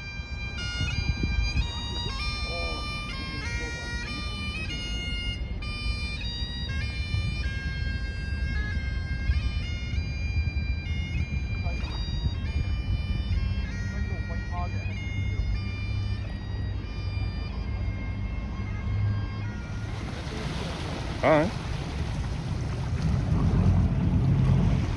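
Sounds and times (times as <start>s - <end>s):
bagpipes playing a tune: 0.0s - 21.5s
steady low rumble: 0.0s - 24.9s.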